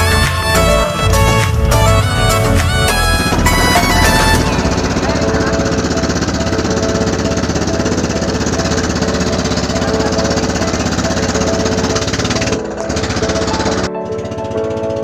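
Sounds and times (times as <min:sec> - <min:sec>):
music: 0:00.0 - 0:15.0
small boat engine chugging: 0:00.0 - 0:15.0.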